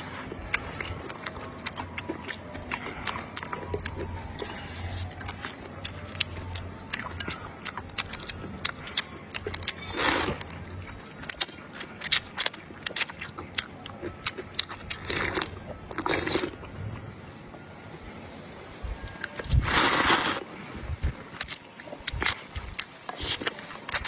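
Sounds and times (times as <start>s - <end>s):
wet clicks and crunches: 0.0s - 16.8s, 21.0s - 24.0s
chewing and biting: 0.0s - 17.1s, 19.0s - 24.0s.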